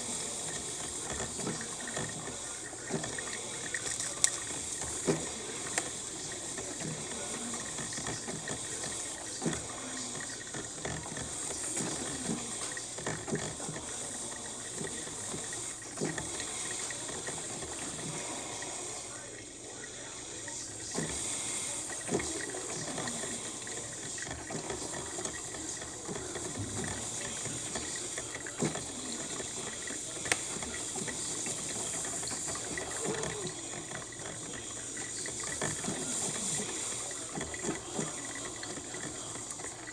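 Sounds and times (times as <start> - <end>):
coffee maker hissing steam: 0.0 - 39.9.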